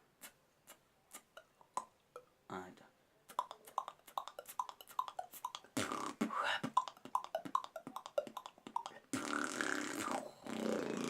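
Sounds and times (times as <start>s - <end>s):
beatboxing tongue clops: 0.2s - 2.3s, 3.3s - 11.0s.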